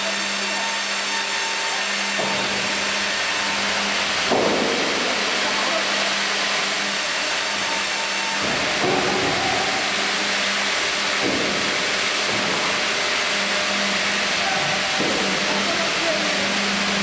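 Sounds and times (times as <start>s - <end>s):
sawmill machinery hum: 0.0s - 17.0s.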